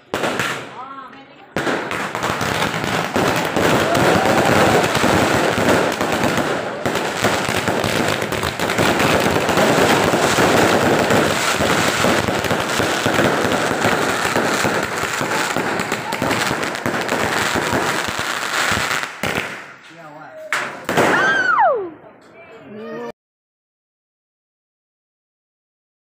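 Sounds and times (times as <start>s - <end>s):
fireworks launching and bursting: 0.0s - 0.9s, 1.5s - 22.0s.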